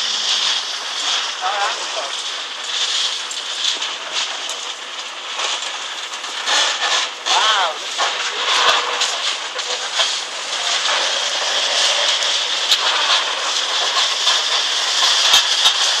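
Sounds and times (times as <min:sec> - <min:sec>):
concrete cracking and debris falling: 0:00.0 - 0:16.0
machinery hiss: 0:00.0 - 0:16.0.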